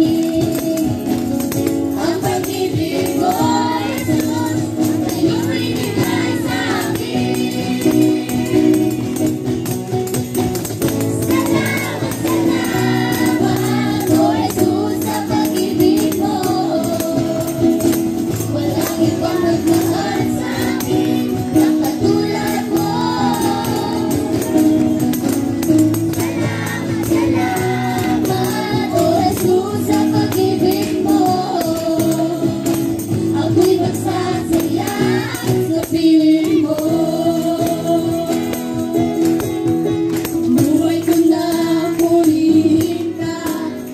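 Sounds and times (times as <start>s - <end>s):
voices singing into microphones: 0.0s - 9.4s, 11.0s - 39.4s, 40.5s - 43.9s
acoustic guitar: 0.0s - 43.9s
keyboard: 0.0s - 43.9s.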